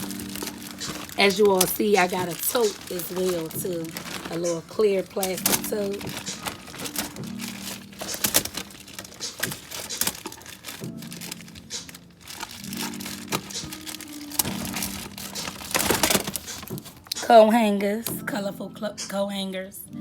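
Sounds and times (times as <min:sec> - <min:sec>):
plastic crinkling and clicking: 0:00.0 - 0:17.3
background music with low notes: 0:00.0 - 0:20.0.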